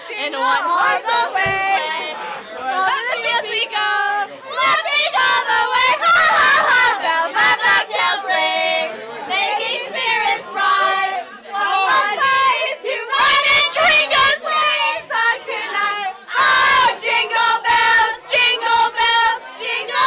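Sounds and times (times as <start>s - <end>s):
group singing and shouting: 0.0s - 20.0s.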